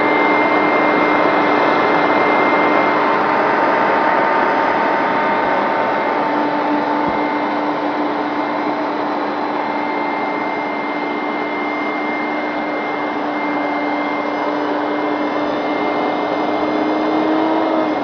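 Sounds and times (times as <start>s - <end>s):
carpet cleaner suction and motor whine: 0.0s - 18.0s.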